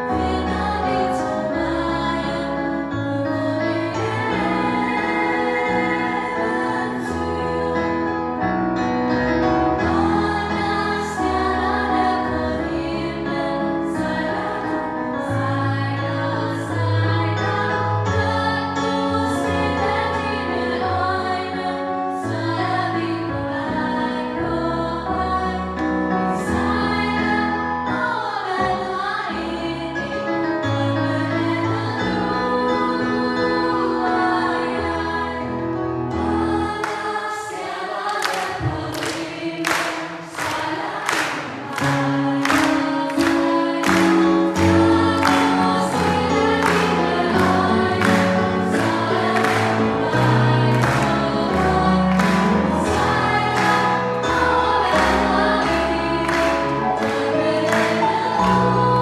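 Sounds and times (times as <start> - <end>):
female choir singing: 0.0 - 59.0.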